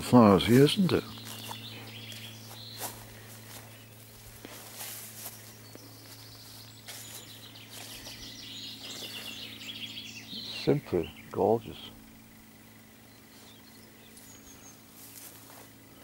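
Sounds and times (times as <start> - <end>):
footsteps through long grass: 0.0 - 10.7, 12.9 - 16.0
small birds singing: 0.0 - 16.0
steady low hum: 0.0 - 16.0.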